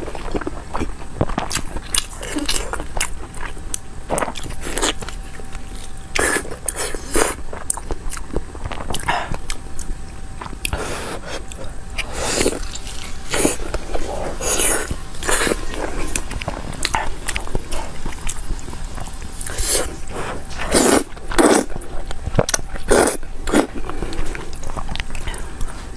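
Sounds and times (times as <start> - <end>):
chewing with crunches: 0.0 - 25.9.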